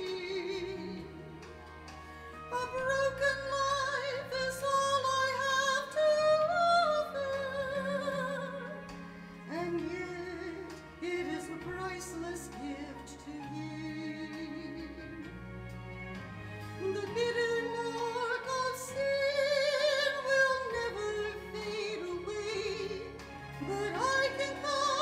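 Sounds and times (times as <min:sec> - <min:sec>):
instrumental accompaniment: 0:00.0 - 0:25.0.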